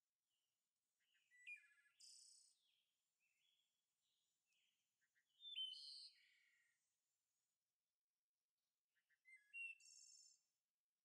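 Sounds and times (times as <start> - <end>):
faint birdsong: 0.6 - 11.0.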